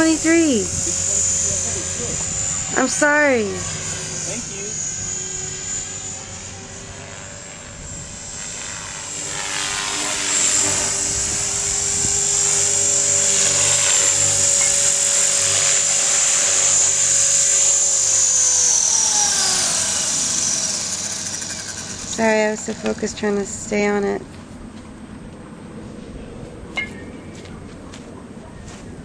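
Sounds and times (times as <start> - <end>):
rc helicopter motor whine: 0.0 - 24.2.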